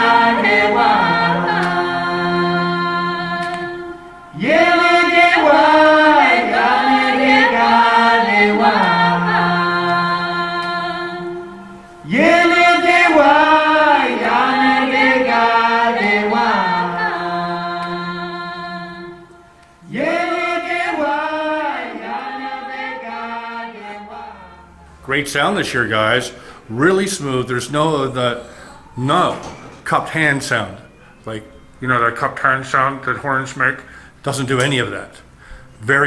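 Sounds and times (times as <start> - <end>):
choral singing over loudspeakers: 0.0 - 33.7.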